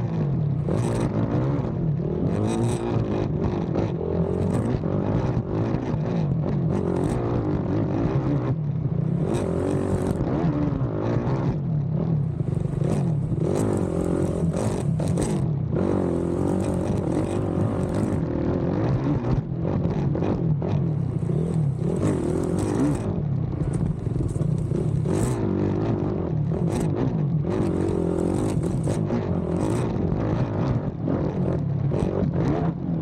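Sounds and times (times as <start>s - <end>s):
atv engine revving: 0.6s - 6.1s, 6.7s - 8.0s, 9.0s - 11.3s, 12.2s - 19.4s, 20.1s - 32.7s.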